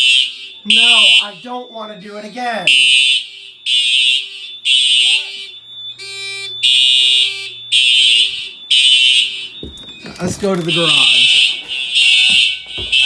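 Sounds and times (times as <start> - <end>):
buzzy alarm horn: 0.0 - 13.0
fire alarm horns blasting: 0.0 - 13.0.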